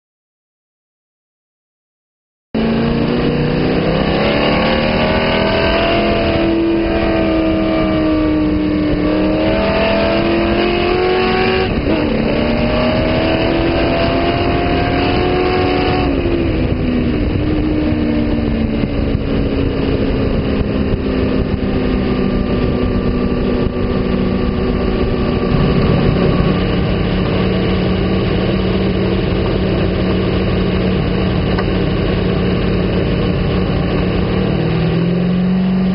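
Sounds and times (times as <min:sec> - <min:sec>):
dune buggy engine revving: 0:02.6 - 0:35.9.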